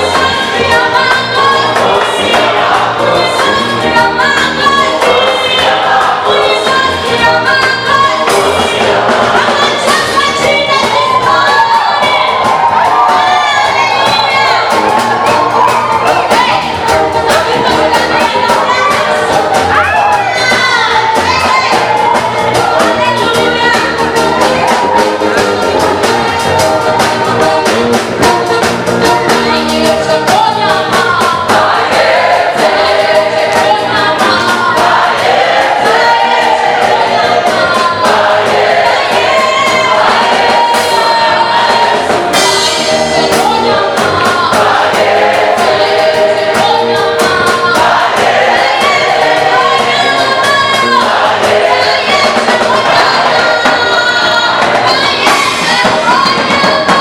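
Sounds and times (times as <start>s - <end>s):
band with steady beat: 0.0s - 57.0s
choir singing in harmony: 0.0s - 57.0s.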